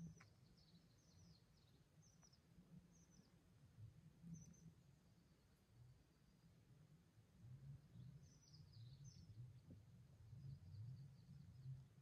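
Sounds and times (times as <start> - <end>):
faint low rumble: 0.0 - 12.0.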